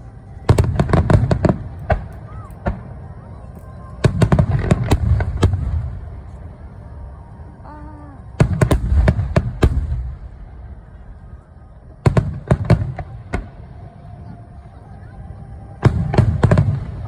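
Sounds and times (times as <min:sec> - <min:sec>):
fireworks bursting with sharp bangs: 0:00.0 - 0:06.7, 0:08.2 - 0:17.0
low rumble and crackle: 0:00.0 - 0:17.0.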